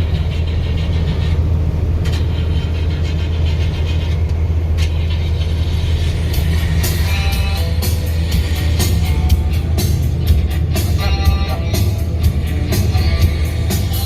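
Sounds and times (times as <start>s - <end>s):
truck engine and road rumble: 0.0s - 14.0s
wind pushing on truck: 0.0s - 14.0s.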